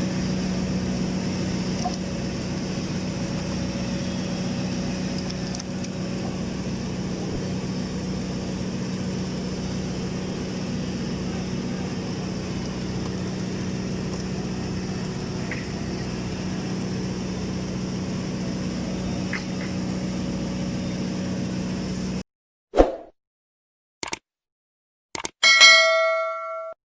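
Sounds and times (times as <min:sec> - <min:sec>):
welding machine humming: 0:00.0 - 0:22.2.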